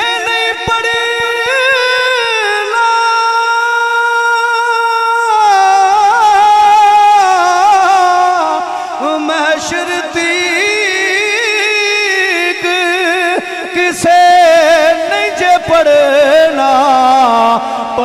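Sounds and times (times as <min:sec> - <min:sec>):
man singing into microphone: 0:00.0 - 0:18.0.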